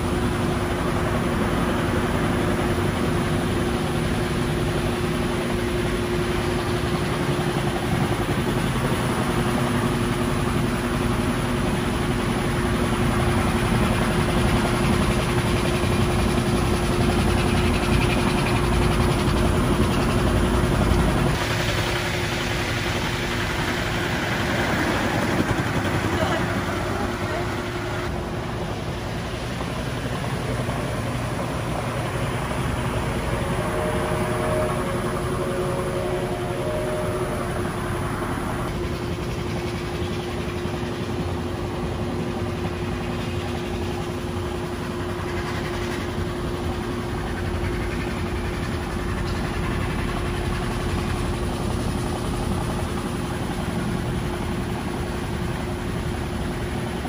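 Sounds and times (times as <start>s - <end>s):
machine drone: 0.0s - 57.0s.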